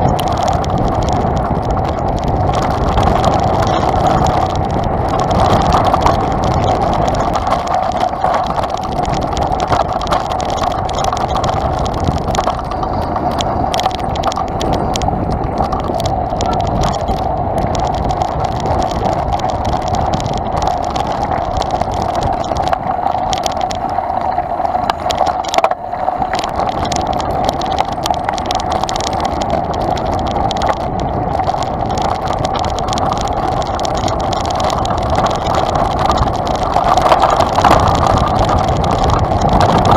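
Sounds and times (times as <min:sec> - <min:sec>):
bike knocks and rattles: 0:00.0 - 0:24.0, 0:24.8 - 0:39.9
bike rumbling over dirt trail: 0:00.0 - 0:39.9.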